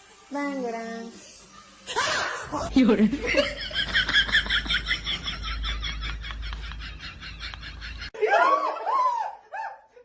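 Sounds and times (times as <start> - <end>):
rhythmic giggling laughter: 1.9 - 10.0.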